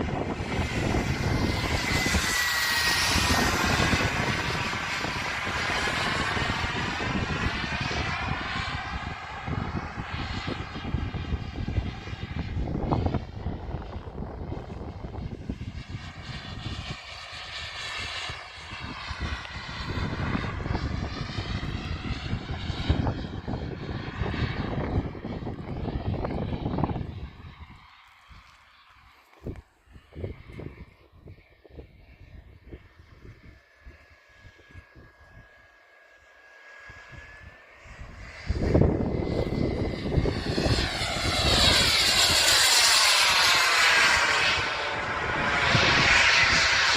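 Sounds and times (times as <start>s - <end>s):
gusty low rumble: 0.0s - 35.7s, 36.9s - 46.9s
model jet turbine whining: 0.0s - 46.9s.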